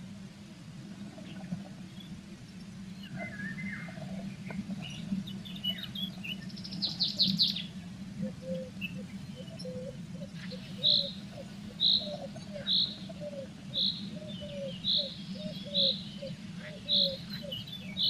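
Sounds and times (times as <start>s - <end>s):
steady low hum: 0.0s - 18.0s
songbirds chirping: 0.1s - 18.0s.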